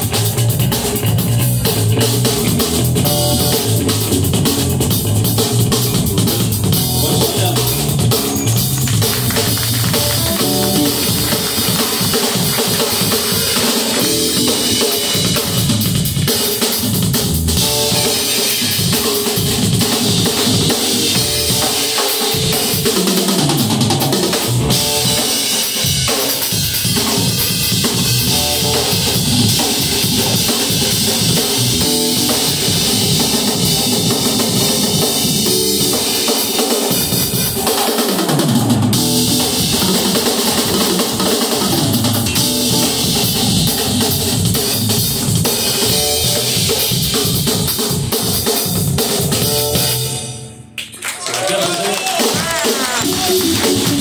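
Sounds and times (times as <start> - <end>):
electric guitars: 0.0 - 25.6, 26.6 - 48.4, 52.9 - 54.0
drum kit: 0.0 - 54.0
live band playing: 0.0 - 54.0.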